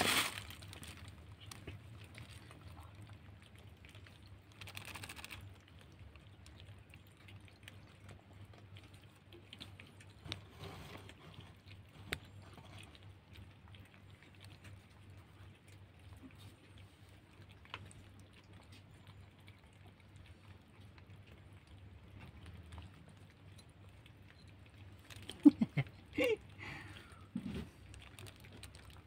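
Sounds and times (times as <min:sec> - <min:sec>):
kittens crunching kibble: 0:00.0 - 0:29.0
low steady hum: 0:00.0 - 0:29.0.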